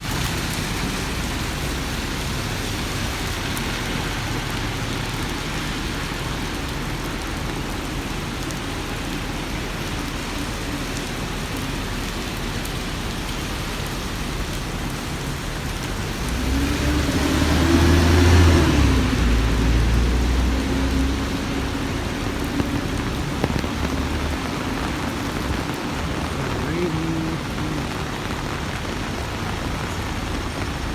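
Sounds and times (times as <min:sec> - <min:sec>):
rain on hard surfaces: 0:00.0 - 0:30.9
vehicle passing on wet road: 0:00.0 - 0:30.9.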